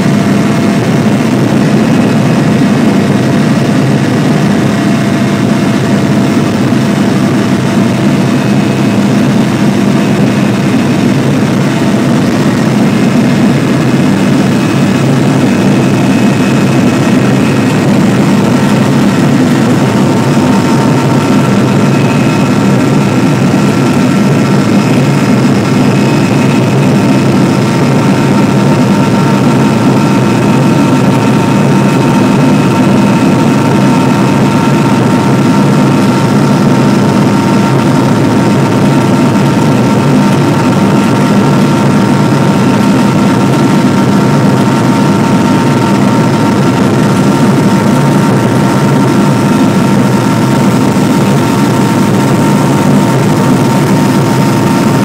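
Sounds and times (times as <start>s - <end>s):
helicopter engine drone: 0.0s - 55.0s.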